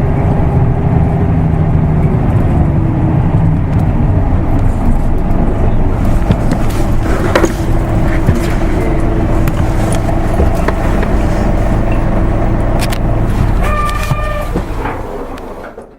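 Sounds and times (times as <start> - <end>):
bus diesel engine running: 0.0 - 15.9.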